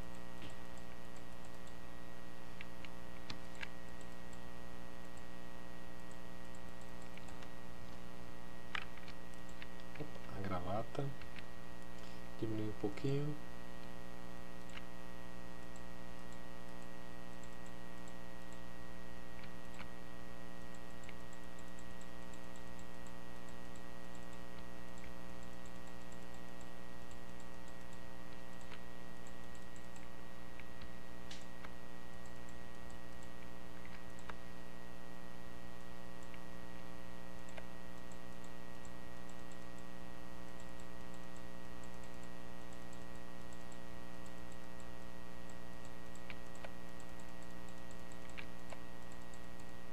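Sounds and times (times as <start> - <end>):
computer mouse clicking: 0.0 - 1.8, 2.4 - 5.3, 6.0 - 13.3, 14.6 - 14.9, 15.6 - 18.7, 19.3 - 20.0, 20.6 - 34.6, 35.8 - 49.9
steady electrical hum: 0.0 - 49.9.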